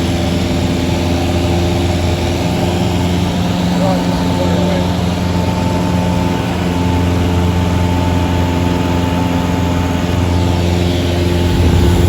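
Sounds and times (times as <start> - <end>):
aircraft engine droning: 0.0 - 12.0.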